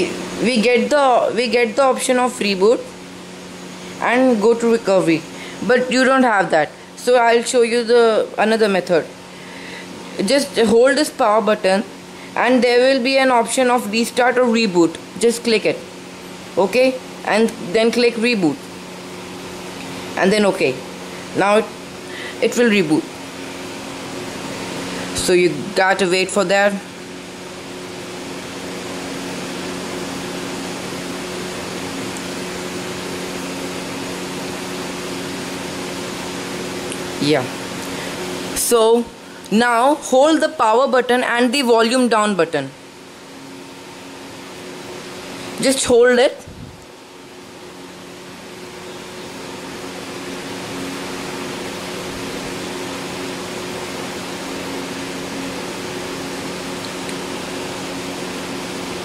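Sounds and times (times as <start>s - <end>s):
fan-like hiss: 0.0s - 59.0s
low steady hum: 0.0s - 59.0s.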